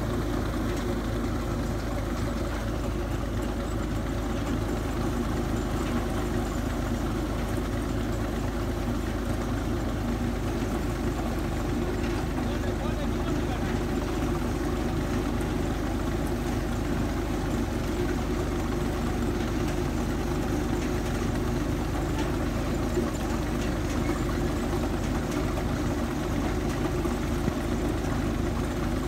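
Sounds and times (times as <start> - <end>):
drilling rig engine running: 0.0 - 29.0.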